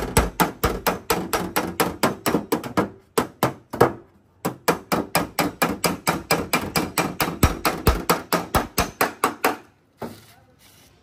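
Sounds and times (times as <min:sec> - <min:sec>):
hammer beating sheet metal: 0:00.0 - 0:09.7.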